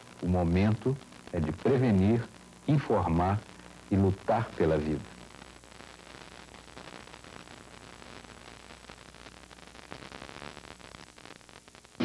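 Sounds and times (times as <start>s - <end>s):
steady low hum: 0.0s - 12.0s
tape hiss and static: 0.0s - 12.0s.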